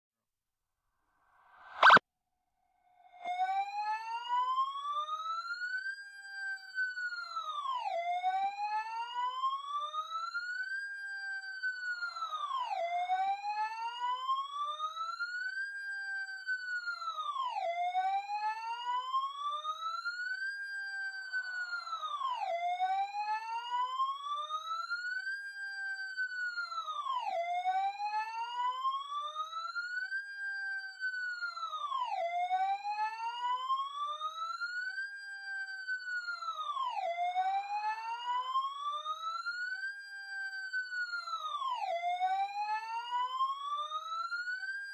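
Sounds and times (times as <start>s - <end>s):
fire truck siren wailing: 1.6s - 2.0s, 3.1s - 44.9s.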